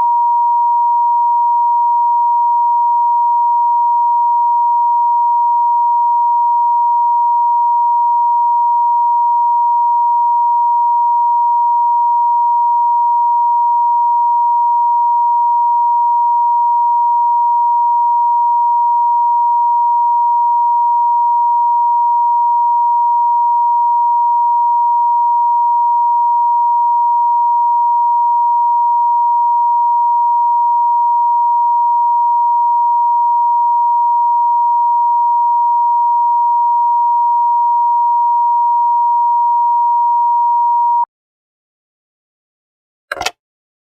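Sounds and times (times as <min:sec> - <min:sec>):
steady high telephone tone: 0:00.0 - 0:41.1.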